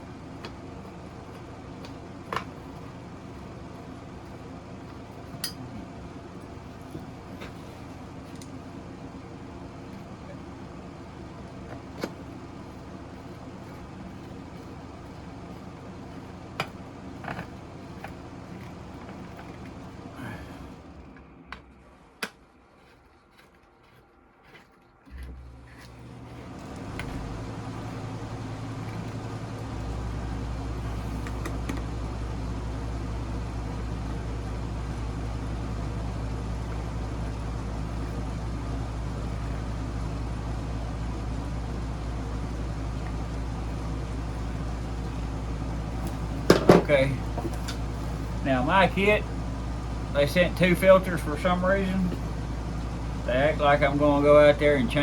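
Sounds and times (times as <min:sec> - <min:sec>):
air pump humming: 0:00.0 - 0:21.6, 0:22.6 - 0:55.0.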